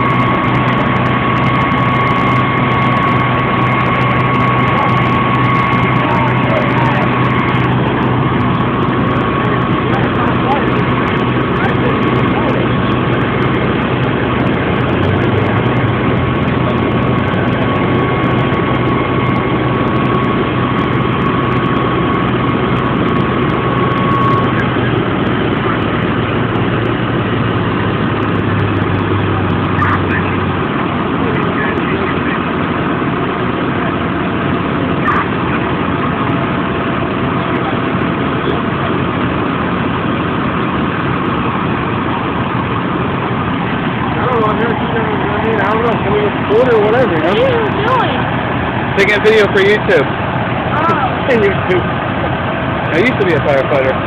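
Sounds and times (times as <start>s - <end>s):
diesel engine idling: 0.0s - 54.0s
thin whine: 0.0s - 54.0s.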